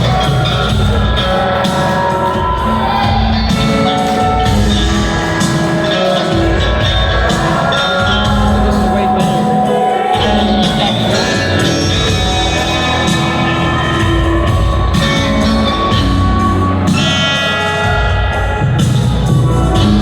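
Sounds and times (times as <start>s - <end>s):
live band music: 0.0s - 20.0s.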